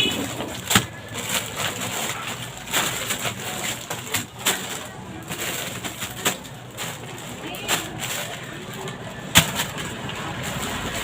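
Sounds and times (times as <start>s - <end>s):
cardboard and plastic rustling: 0.0s - 11.0s
items knocking down: 0.0s - 11.0s.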